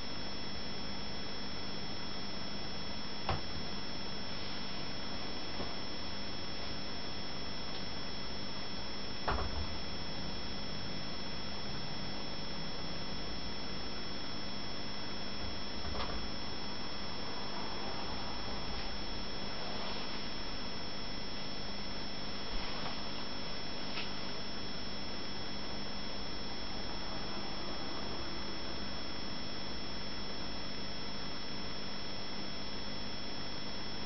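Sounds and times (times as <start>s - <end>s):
tank equipment hum and hiss: 0.0s - 34.0s.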